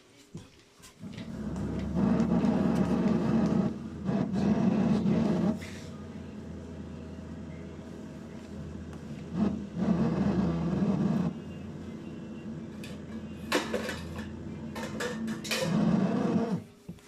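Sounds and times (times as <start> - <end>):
dishwasher humming: 1.0 - 16.7.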